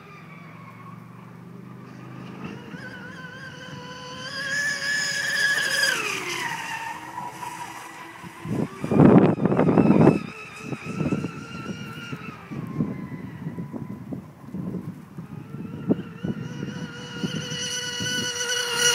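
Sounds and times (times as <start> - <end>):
electric rc boat whine: 0.0 - 18.9.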